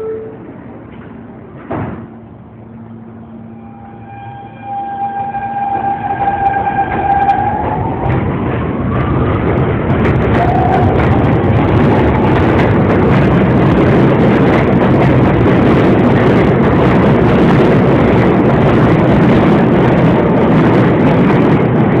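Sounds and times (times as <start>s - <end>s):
subway train rumble and hiss: 0.0s - 22.0s.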